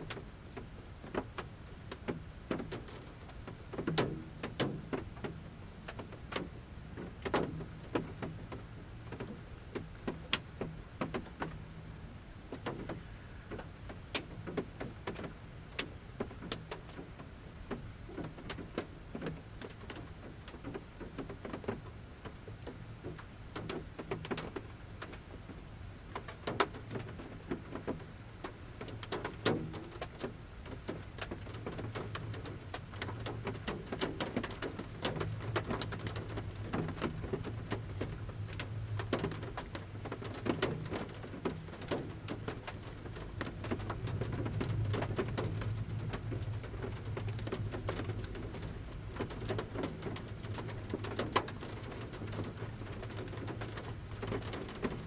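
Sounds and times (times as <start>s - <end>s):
raindrops tapping on van roof: 0.0s - 55.0s.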